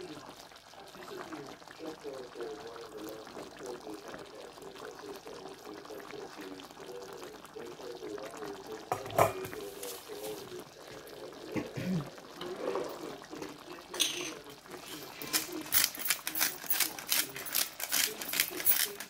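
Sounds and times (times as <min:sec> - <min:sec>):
sauce bubbling in a pan: 0:00.0 - 0:15.7.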